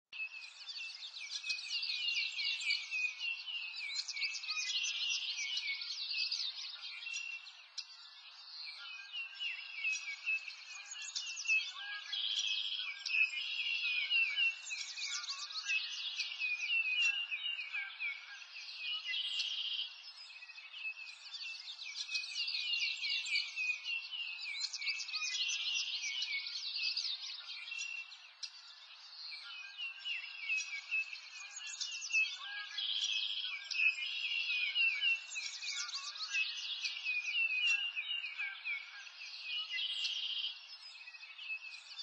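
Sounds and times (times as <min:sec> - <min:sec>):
songbirds chirping: 0:00.0 - 0:42.0.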